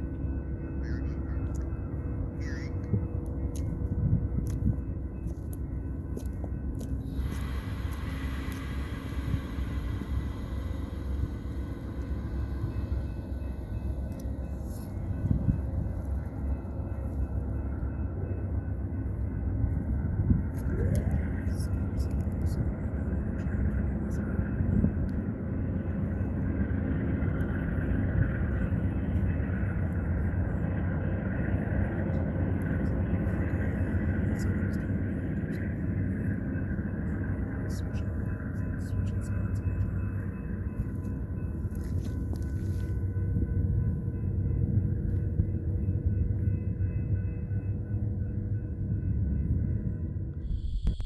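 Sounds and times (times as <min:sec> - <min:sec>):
diesel train rumble: 0:00.0 - 0:51.0.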